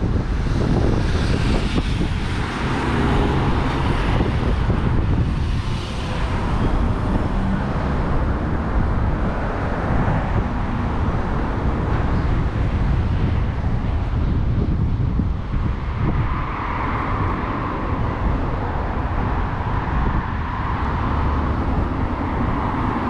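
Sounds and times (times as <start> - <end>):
road traffic passing: 0.0 - 23.0
wind rumbling on microphone: 0.0 - 23.0.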